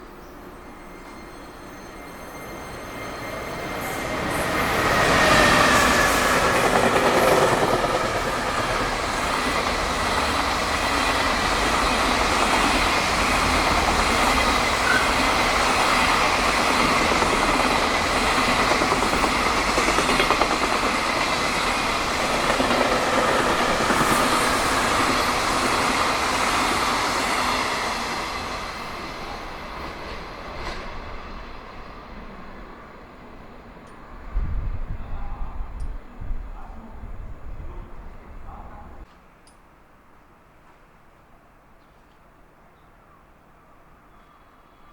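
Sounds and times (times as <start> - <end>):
electric locomotive passing: 0.0 - 39.1.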